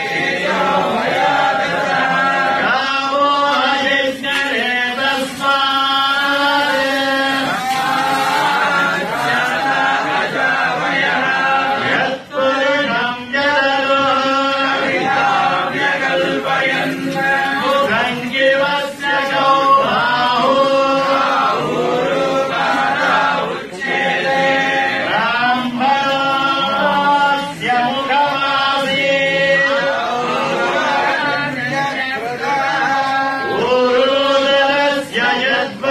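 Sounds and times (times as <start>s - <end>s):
men chanting a hymn: 0.0s - 35.9s.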